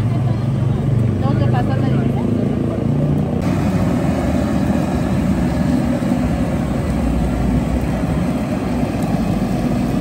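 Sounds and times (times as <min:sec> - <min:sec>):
gas burner roaring: 0:00.0 - 0:10.0.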